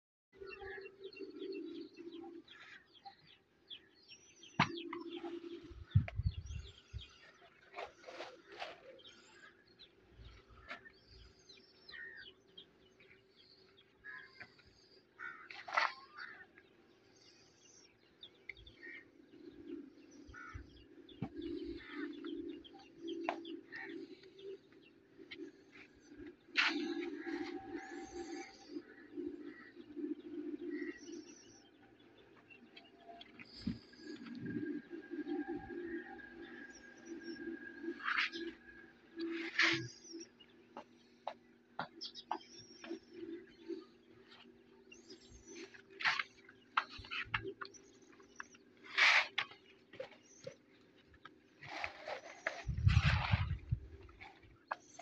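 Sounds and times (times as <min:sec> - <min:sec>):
small birds chirping: 0:00.4 - 0:55.0.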